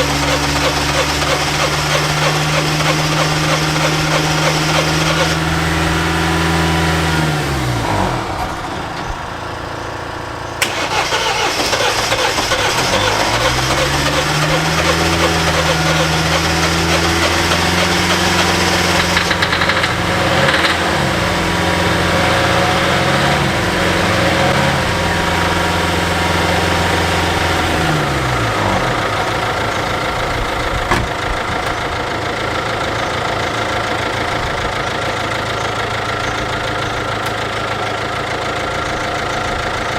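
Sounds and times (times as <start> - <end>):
diesel engine cranking: 0.0 - 39.9.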